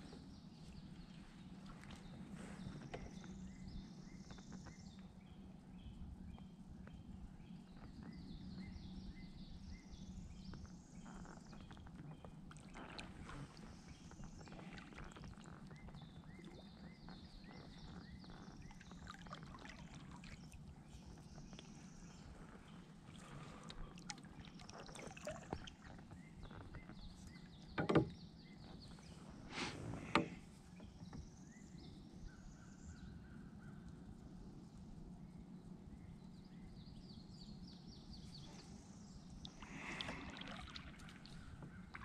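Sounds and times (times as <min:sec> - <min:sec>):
lower bird chirps: 0:00.0 - 0:33.9
water: 0:00.0 - 0:42.0
wind: 0:00.0 - 0:42.0.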